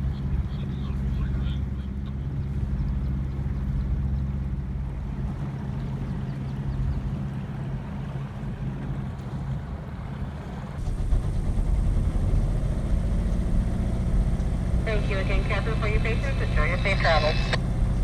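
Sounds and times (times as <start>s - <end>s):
boat engine running: 0.0s - 18.0s
water noise: 0.0s - 18.0s
wind: 0.0s - 18.0s.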